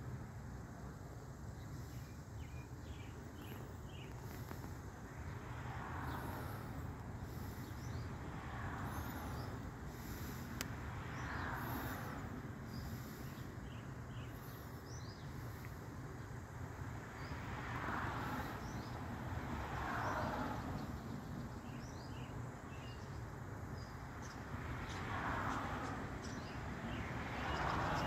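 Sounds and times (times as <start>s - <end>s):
distant traffic hum: 0.0s - 28.0s
small birds chirping: 1.4s - 19.1s, 20.0s - 28.0s.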